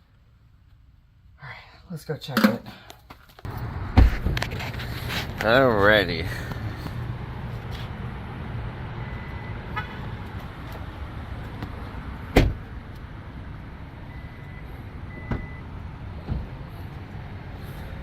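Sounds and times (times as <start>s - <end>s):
car road rumble: 3.4s - 18.0s.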